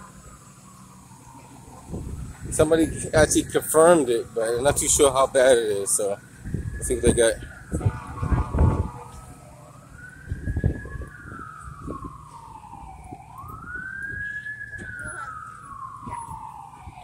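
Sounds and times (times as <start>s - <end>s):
emergency vehicle wail siren: 0.0s - 17.0s
low street rumble: 0.0s - 17.0s.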